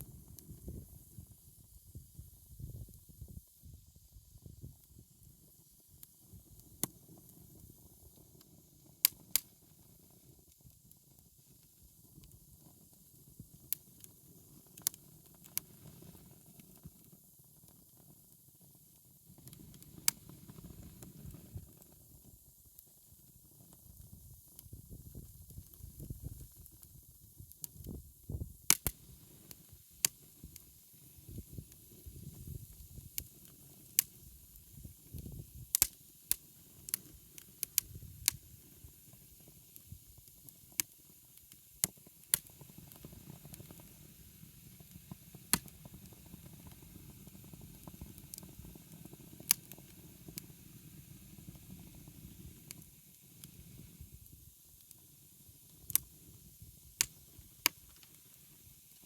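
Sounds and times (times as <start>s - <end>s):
wood fire crackling and popping: 6.0s - 8.4s, 9.0s - 9.6s, 13.3s - 18.3s, 19.2s - 59.0s.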